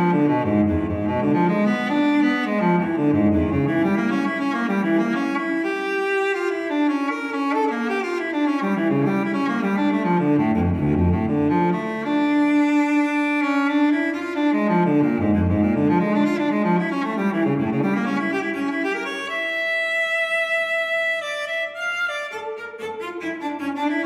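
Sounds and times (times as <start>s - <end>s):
instrumental background music: 0.0s - 24.0s.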